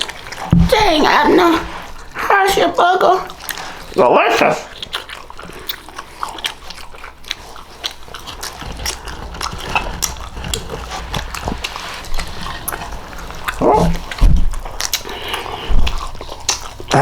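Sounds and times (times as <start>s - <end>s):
chewing with wet mouth clicks: 0.0s - 0.6s, 1.7s - 4.0s, 4.6s - 17.0s.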